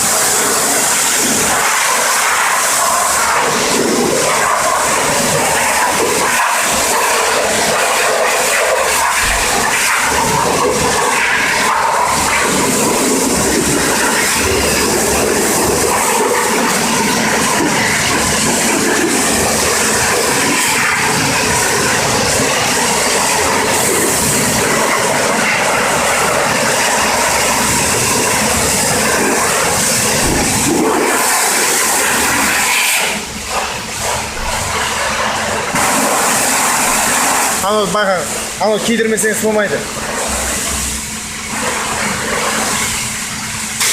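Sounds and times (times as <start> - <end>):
pressure washer spraying water: 0.0 - 43.9.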